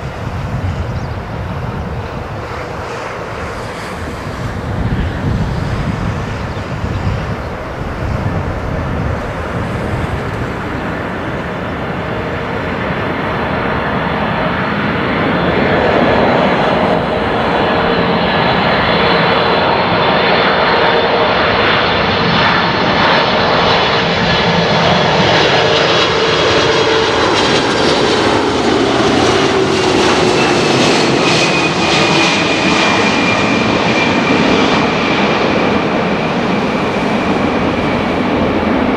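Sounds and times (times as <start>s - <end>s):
jet engine roar: 0.0s - 38.9s
jet engine whine falling in pitch: 0.0s - 38.9s.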